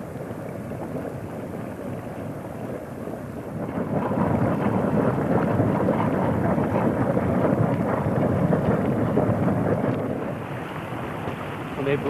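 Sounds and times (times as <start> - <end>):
boiling hot spring churning: 0.0 - 12.0.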